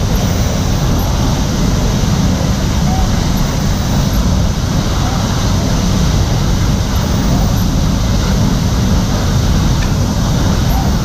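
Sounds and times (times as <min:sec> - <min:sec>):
fire hose spray rushing: 0:00.0 - 0:11.0.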